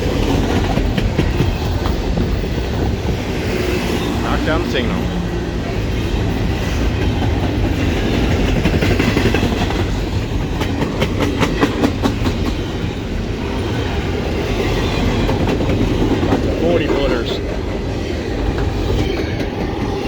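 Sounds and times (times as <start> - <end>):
train wheels rumbling on rail: 0.0 - 20.0
wheels clacking over rail joints: 0.0 - 20.0.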